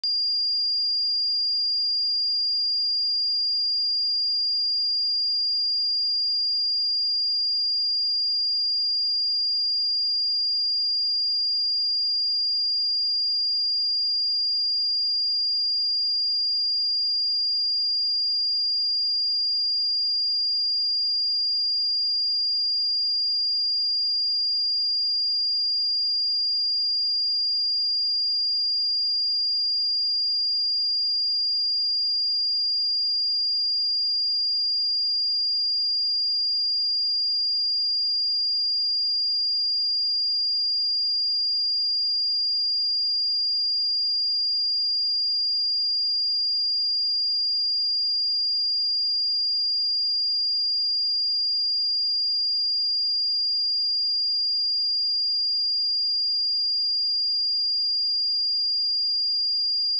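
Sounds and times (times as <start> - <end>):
sine wave test tone: 0.0 - 59.9.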